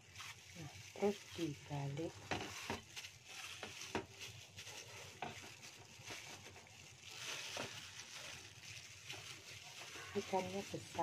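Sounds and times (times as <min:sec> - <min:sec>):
plastic glove crinkling: 0:00.0 - 0:11.0.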